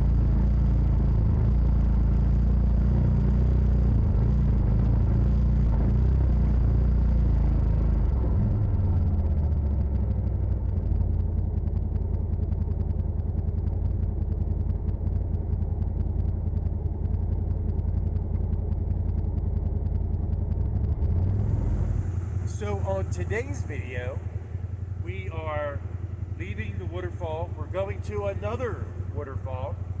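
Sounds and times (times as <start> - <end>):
engine running low drone: 0.0 - 30.0.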